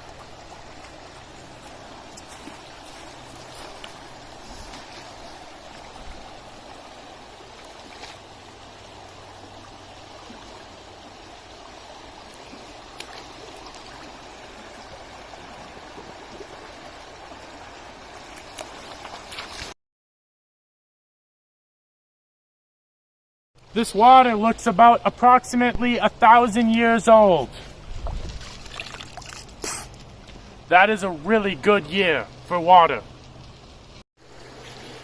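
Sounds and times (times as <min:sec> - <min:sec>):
stream water rushing: 0:00.0 - 0:19.8, 0:23.6 - 0:35.0.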